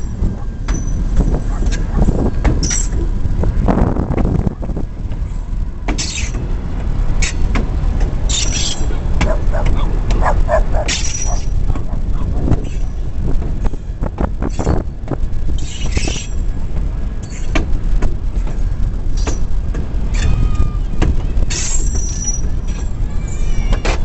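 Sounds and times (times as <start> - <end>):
diesel locomotive rumble: 0.0 - 24.0
wind on microphone: 0.0 - 24.0.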